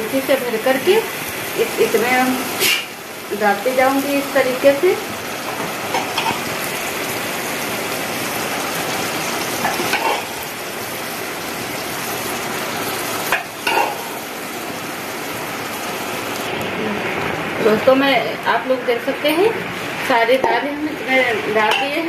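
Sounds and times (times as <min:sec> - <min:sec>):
lentils sizzling in a pot: 0:00.0 - 0:22.0.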